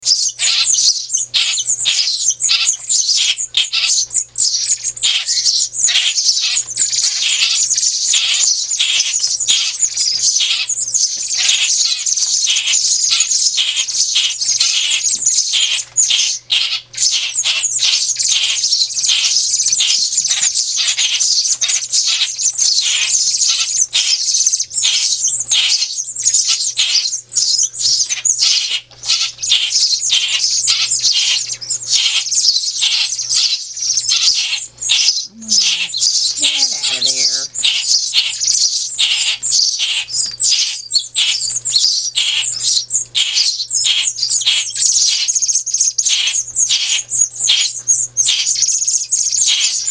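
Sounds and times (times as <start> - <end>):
baby birds chirping: 0.0 - 49.9.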